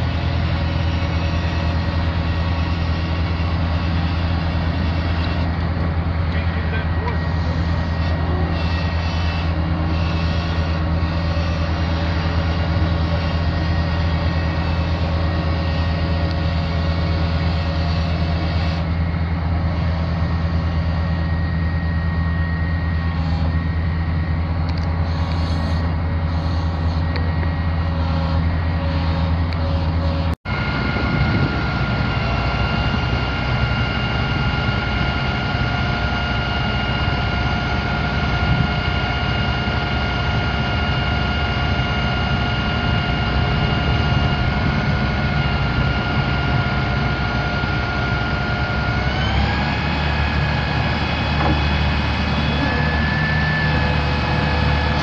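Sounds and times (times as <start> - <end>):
diesel engine droning: 0.0 - 55.0
high-pitched whine: 0.0 - 55.0.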